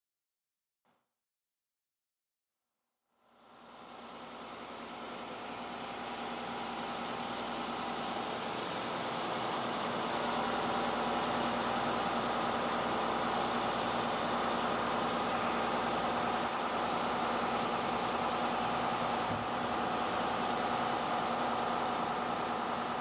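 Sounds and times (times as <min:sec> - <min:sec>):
truck engine running: 0:03.5 - 0:23.0.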